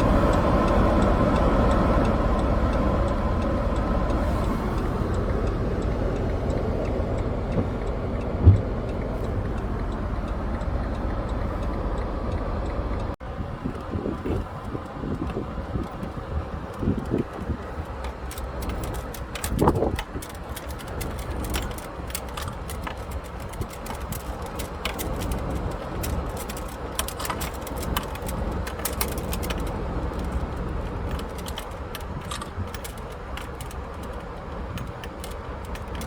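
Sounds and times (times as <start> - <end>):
car engine and road rumble: 0.0 - 36.0
raindrops ticking on car: 0.0 - 36.0.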